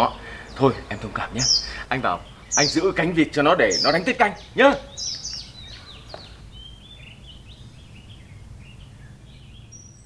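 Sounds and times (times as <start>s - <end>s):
faint low hum: 0.0s - 10.0s
small birds chirping: 0.0s - 10.0s.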